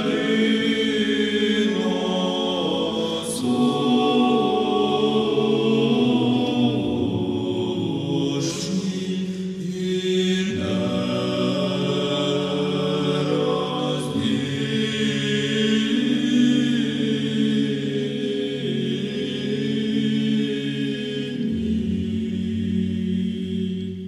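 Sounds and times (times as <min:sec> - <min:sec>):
unaccompanied choir chanting: 0:00.0 - 0:24.0.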